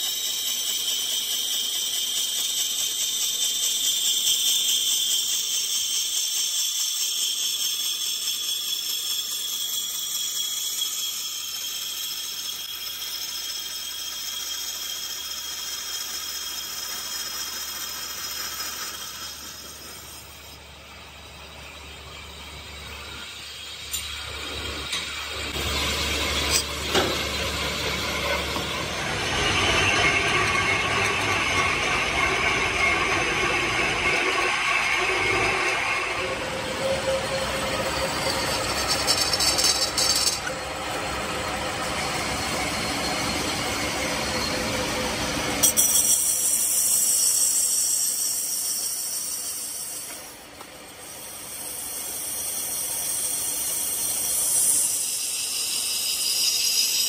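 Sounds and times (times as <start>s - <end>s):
metal lathe cutting: 0.0s - 57.0s.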